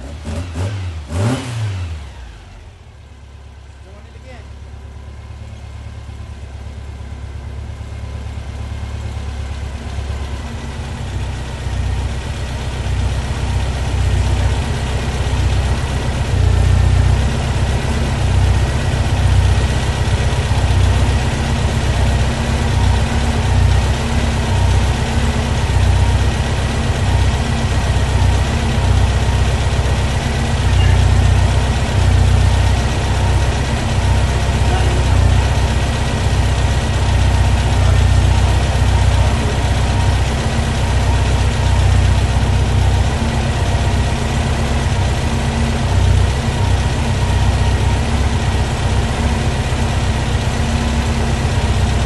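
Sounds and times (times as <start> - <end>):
air-cooled engine running: 0.0 - 52.0.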